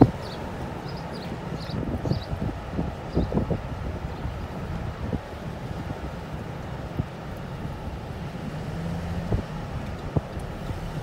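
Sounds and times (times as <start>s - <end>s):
ship diesel engines rumbling: 0.0s - 11.0s
wind buffeting microphone: 0.0s - 11.0s.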